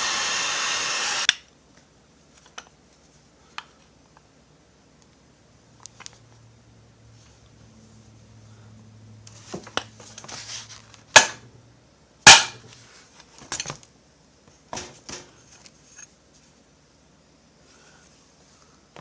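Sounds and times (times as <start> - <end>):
low steady hum: 1.4 - 19.0.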